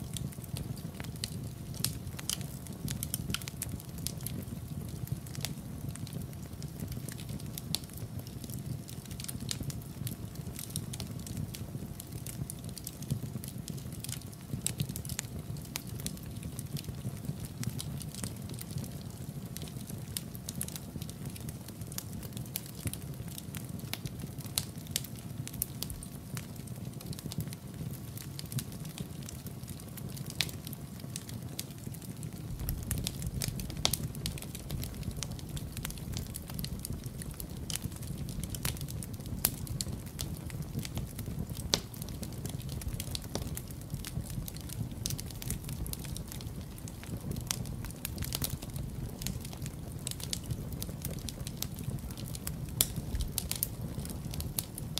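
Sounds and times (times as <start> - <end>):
fire pops and snaps: 0.0 - 54.9
low fire rumble: 0.0 - 54.9
wood fire crackling: 0.0 - 54.9.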